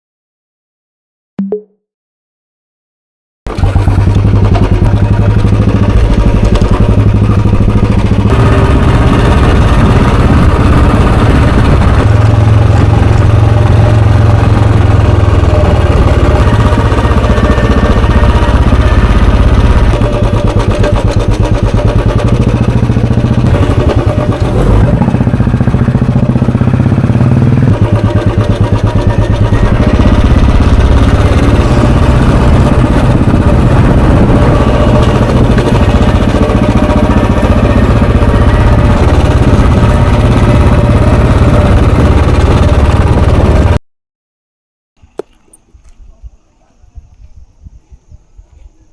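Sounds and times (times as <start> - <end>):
motorcycle engine and exhaust running: 3.5 - 43.8.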